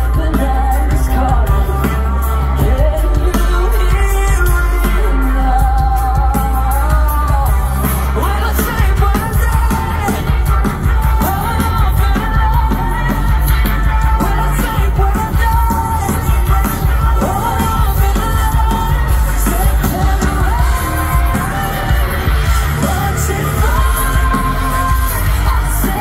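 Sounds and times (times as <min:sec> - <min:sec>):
live rock band: 0:00.0 - 0:26.0
woman singing: 0:00.0 - 0:26.0.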